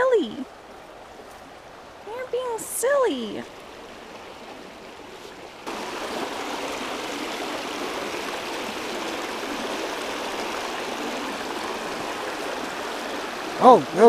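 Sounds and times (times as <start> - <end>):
creek running over stones: 0.0 - 14.0.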